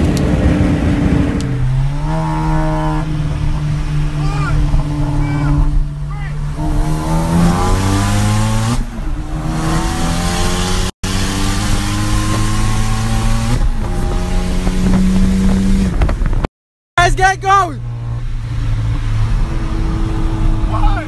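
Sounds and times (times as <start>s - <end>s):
turbocharged car engine accelerating: 0.0s - 16.5s, 17.8s - 21.0s.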